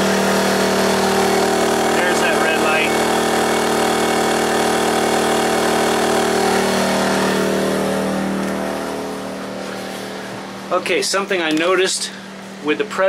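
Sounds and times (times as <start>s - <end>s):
generator engine running at high speed: 0.0s - 13.0s.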